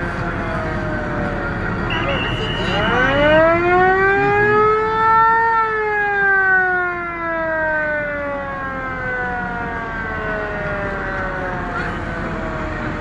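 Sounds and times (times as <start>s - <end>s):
ship siren falling in pitch: 0.5s - 13.0s.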